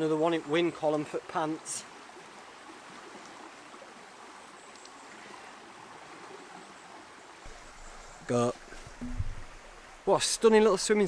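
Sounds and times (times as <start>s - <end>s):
small stream running: 0.0s - 11.0s.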